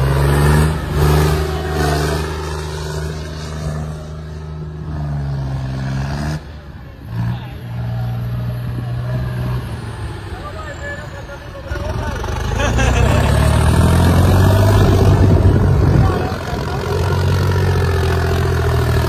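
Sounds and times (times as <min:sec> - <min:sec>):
tractor diesel engine revving: 0:00.0 - 0:19.0.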